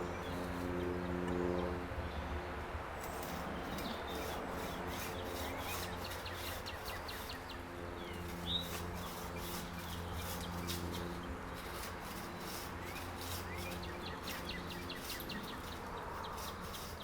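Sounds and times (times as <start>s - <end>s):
rustling or scraping strokes: 3.0s - 17.0s
small birds chirping: 3.0s - 17.0s.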